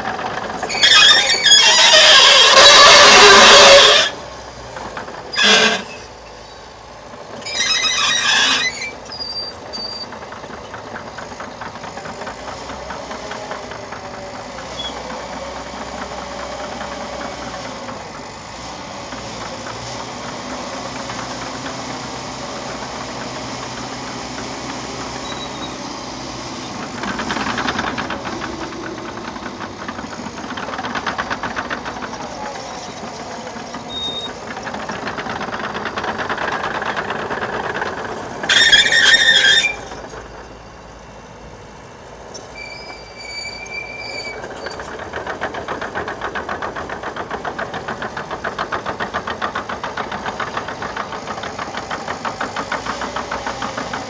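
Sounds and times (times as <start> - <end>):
diesel engine running: 0.0 - 54.0
steel tracks clattering: 0.0 - 54.0.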